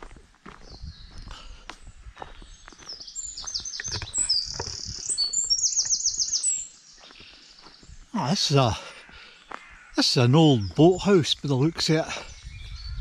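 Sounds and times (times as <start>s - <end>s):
soft footsteps on a path: 0.0s - 13.0s
songbird singing trills: 0.5s - 13.0s.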